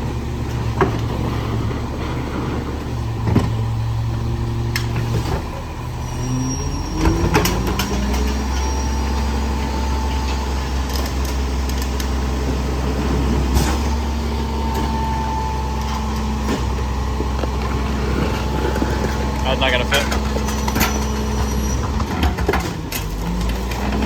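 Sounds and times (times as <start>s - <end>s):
garbage truck engine: 0.0s - 24.0s
trash and metal banging: 0.0s - 24.0s.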